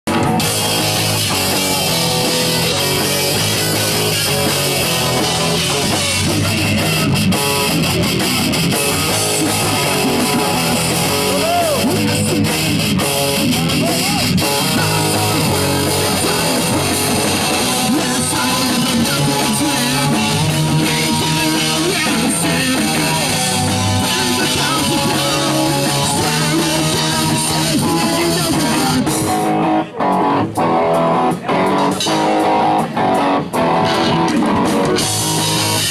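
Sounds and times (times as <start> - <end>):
punk band playing live: 0.1 - 35.9.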